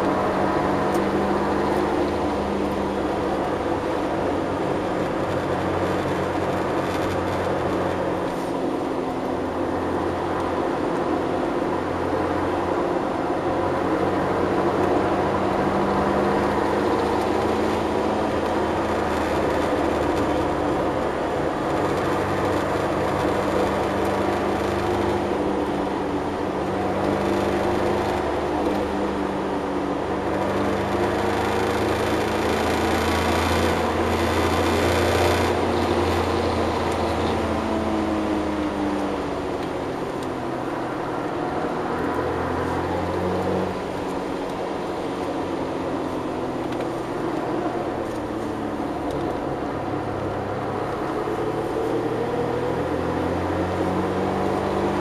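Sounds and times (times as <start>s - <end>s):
car engine under power: 0.0s - 55.0s
road and wind noise: 0.0s - 55.0s.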